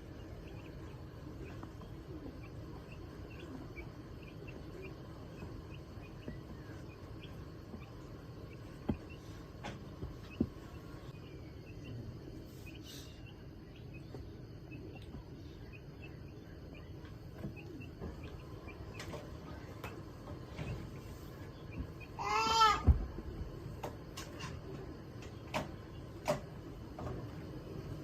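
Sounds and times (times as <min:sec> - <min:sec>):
faint chirps: 0:00.0 - 0:28.0.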